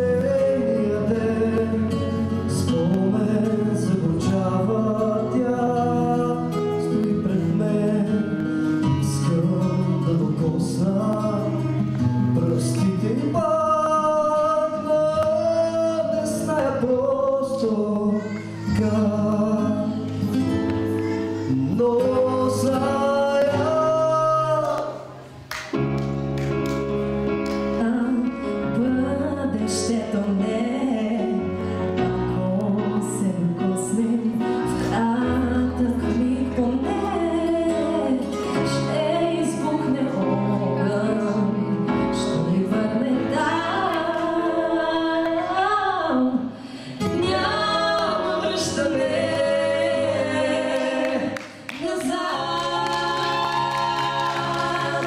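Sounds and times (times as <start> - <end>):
man and woman singing duet: 0.0 - 25.2, 27.7 - 55.0
instrumental backing music: 0.0 - 55.0.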